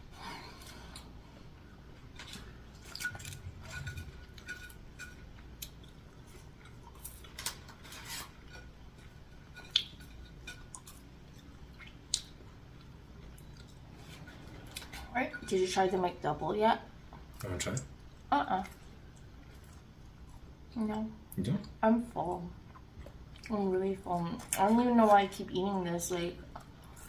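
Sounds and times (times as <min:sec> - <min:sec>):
chewing and wet mouth sounds: 0:00.6 - 0:07.6, 0:08.3 - 0:15.1, 0:17.2 - 0:25.3.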